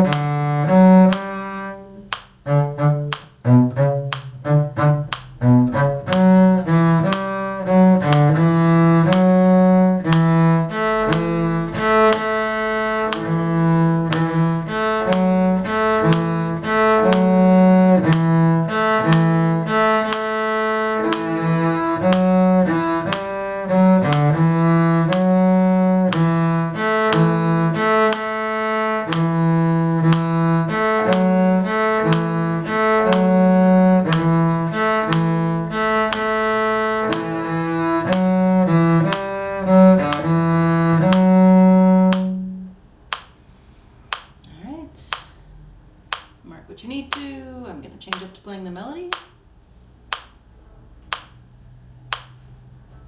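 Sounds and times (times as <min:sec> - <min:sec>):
bowed string instrument playing: 0:00.0 - 0:43.0.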